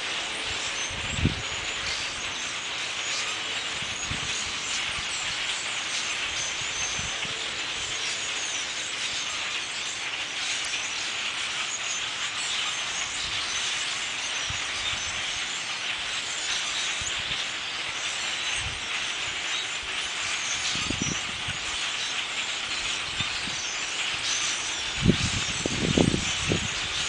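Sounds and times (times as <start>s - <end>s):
flock of birds chirping: 0.0s - 27.0s.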